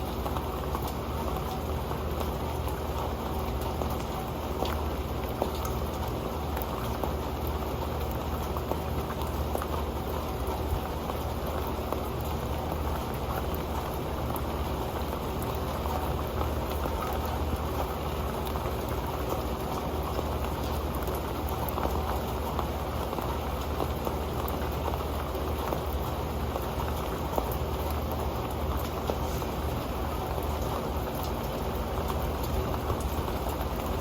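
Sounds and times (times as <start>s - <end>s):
rain wash: 0.0s - 34.0s.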